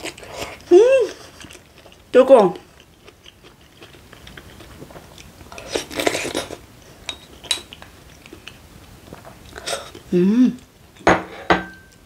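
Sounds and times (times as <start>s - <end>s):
wet chewing: 0.0s - 10.1s.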